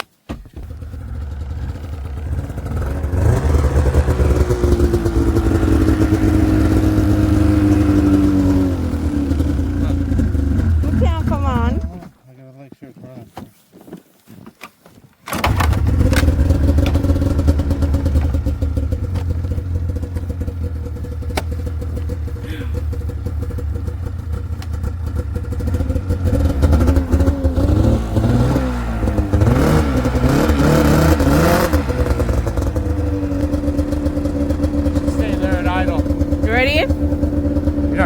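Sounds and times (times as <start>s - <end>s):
snowmobile engine starting and revving: 0.3s - 12.1s, 15.3s - 38.0s.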